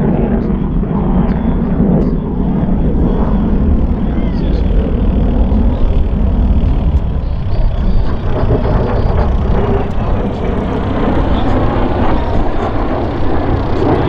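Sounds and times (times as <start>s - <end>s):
jet engine rumble in afterburner: 0.0s - 14.0s.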